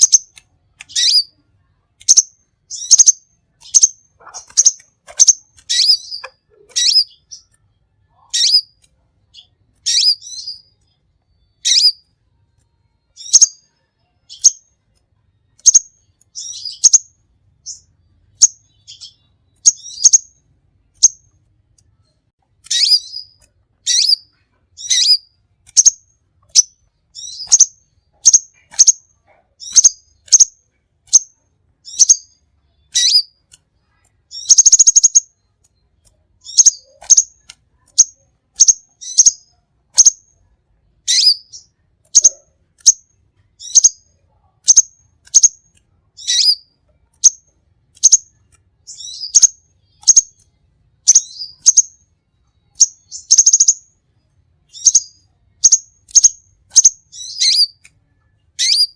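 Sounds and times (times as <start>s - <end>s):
buzzy bird trill: 0.0s - 1.4s, 2.0s - 12.1s, 13.1s - 14.7s, 15.6s - 21.4s, 22.6s - 35.5s, 36.4s - 40.3s, 41.0s - 45.6s, 46.2s - 52.1s, 52.7s - 53.9s, 54.7s - 57.8s, 58.5s - 58.9s
songbird chirping: 0.0s - 58.9s.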